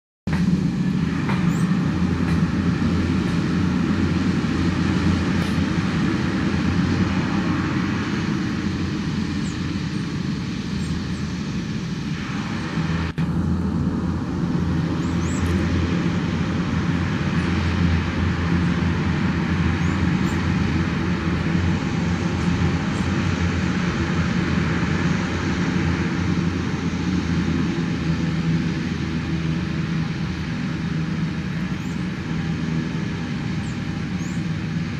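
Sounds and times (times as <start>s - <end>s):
propeller hum: 0.3s - 34.9s
turbine hiss: 0.3s - 34.9s.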